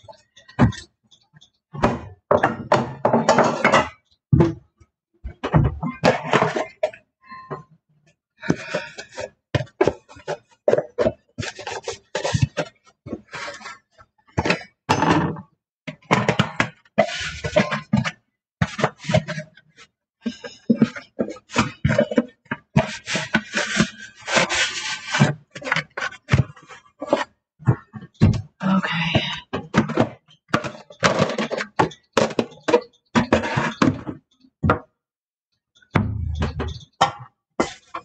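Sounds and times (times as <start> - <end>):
plastic containers clattering: 0.0 - 4.6, 5.3 - 7.0, 8.4 - 34.9.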